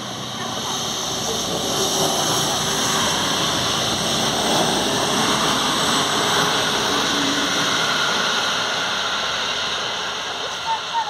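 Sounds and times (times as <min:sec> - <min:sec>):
train passing on rails: 0:00.0 - 0:11.0.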